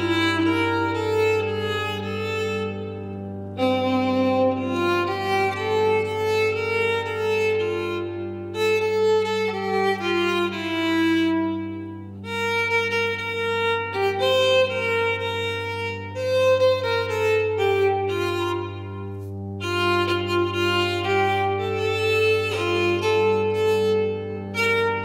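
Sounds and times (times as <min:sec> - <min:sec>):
violin playing slow melody: 0:00.0 - 0:25.0.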